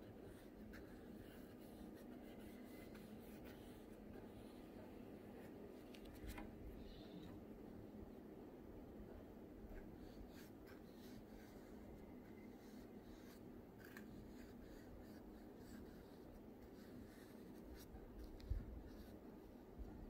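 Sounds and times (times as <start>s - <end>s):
brush rustling on paper: 0.0s - 6.4s, 9.7s - 20.0s.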